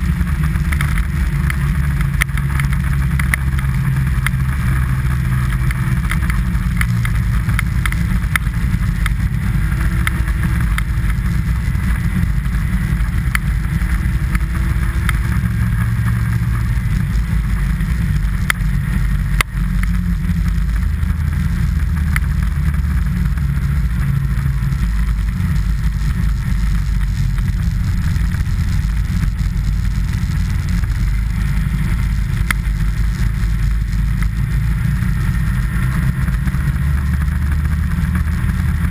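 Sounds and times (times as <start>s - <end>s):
sled rumbling on snow: 0.0s - 38.9s
light ticks: 0.3s - 38.9s.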